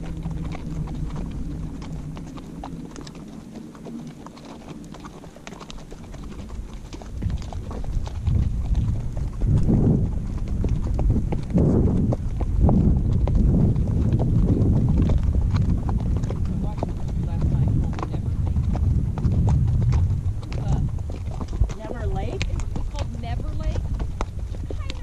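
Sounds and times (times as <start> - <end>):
horse hooves on dirt trail: 0.0 - 25.0
low rumbling noise: 0.0 - 25.0.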